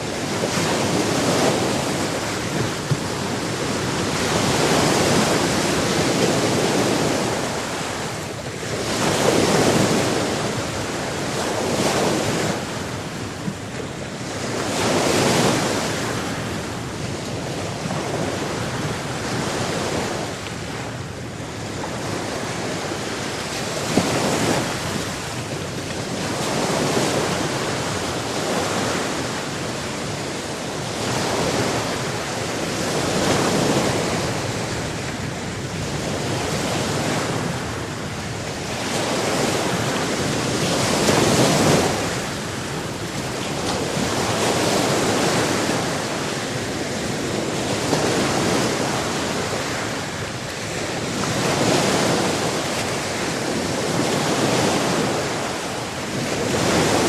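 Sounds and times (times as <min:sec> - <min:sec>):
sea waves breaking ashore: 0:00.0 - 0:57.0.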